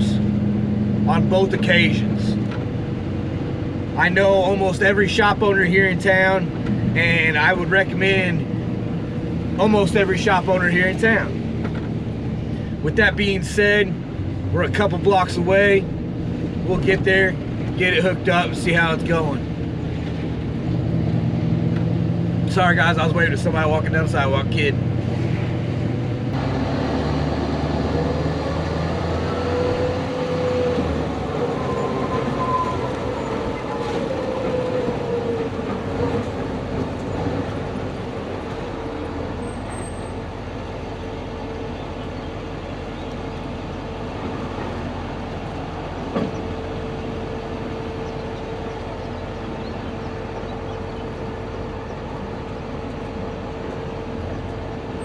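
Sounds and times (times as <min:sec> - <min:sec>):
truck engine and road noise: 0:00.0 - 0:55.0.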